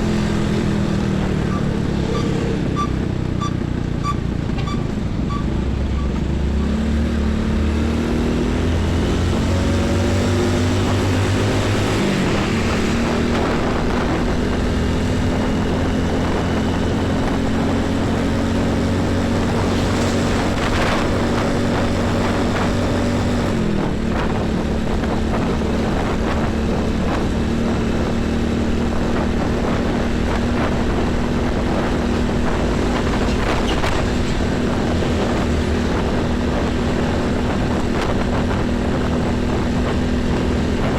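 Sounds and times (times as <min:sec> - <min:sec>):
truck engines droning: 0:00.0 - 0:40.9
tyre and road noise: 0:00.0 - 0:40.9.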